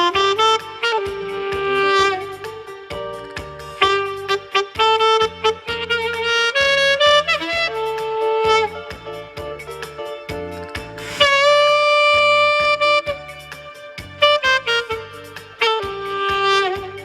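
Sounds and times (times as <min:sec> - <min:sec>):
backing track with steady beat: 0:00.0 - 0:17.0
saxophone slow melody: 0:00.0 - 0:17.0.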